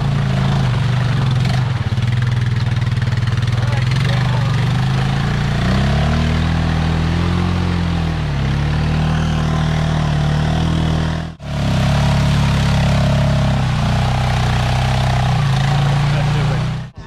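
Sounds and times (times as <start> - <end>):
atv engine running under load: 0.0 - 17.0.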